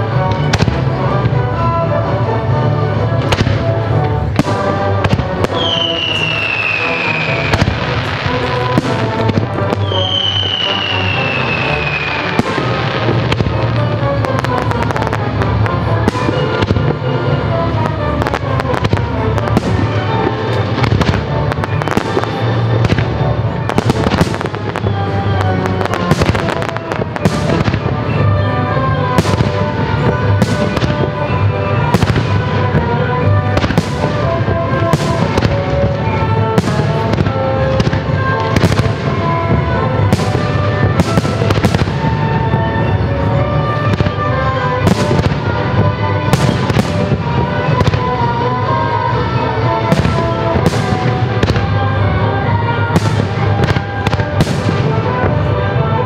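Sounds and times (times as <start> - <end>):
music playing: 0.0 - 56.0.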